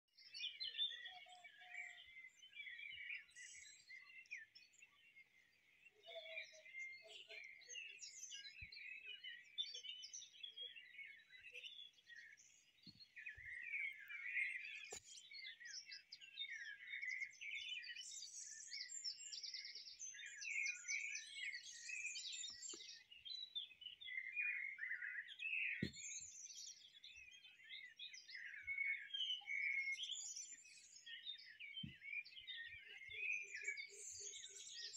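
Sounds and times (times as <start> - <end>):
songbirds chirping and singing: 0.1 - 34.9.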